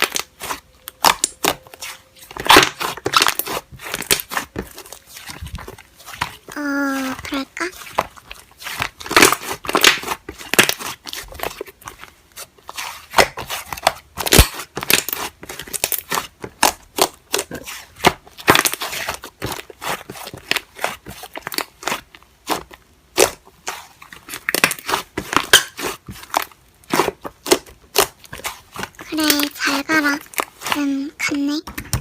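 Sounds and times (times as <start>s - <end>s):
slime squeezed crackling: 0.0s - 31.6s.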